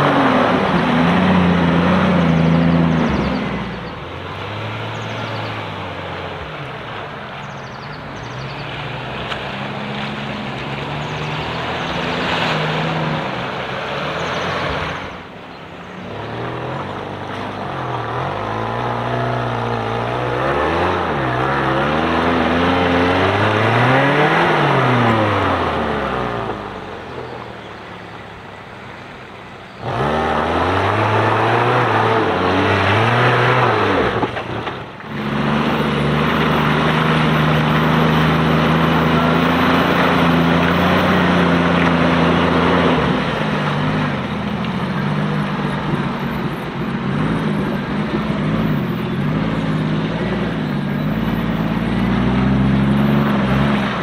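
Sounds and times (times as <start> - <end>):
engine revving: 0.0 - 6.5, 8.2 - 15.4, 16.0 - 26.9, 29.8 - 54.0.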